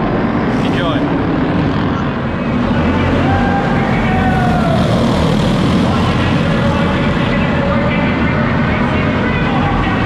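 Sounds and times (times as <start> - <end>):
go-kart engines racing: 0.0 - 10.0.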